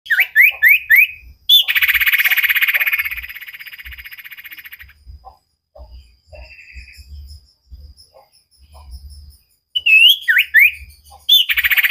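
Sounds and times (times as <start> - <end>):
songbird chirps and trill: 0.1 - 11.9.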